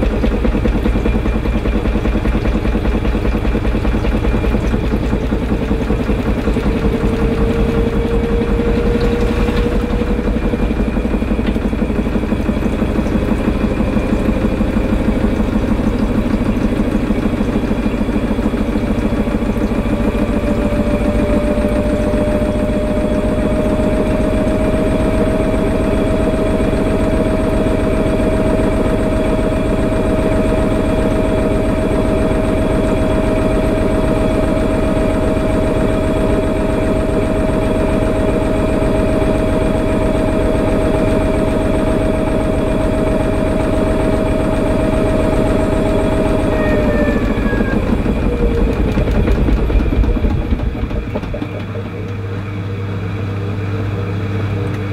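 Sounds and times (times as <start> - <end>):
washing machine motor whine: 0.0 - 54.9.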